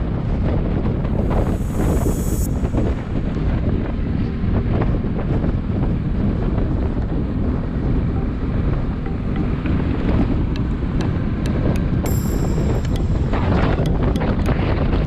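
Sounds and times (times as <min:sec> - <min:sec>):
traffic: 0:00.0 - 0:15.0
wind buffeting microphone: 0:00.0 - 0:15.0.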